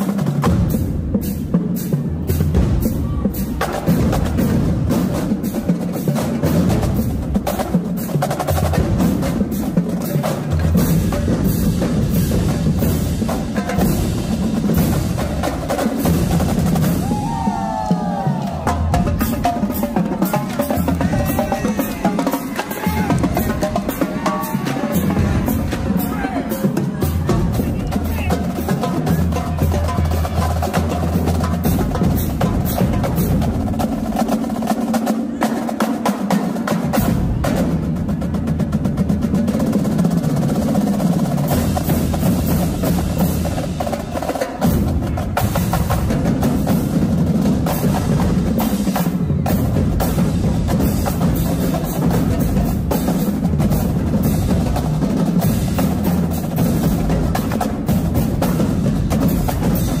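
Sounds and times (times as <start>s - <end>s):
bass drums: 0.0s - 35.4s, 36.8s - 60.0s
tenor drums: 0.0s - 60.0s.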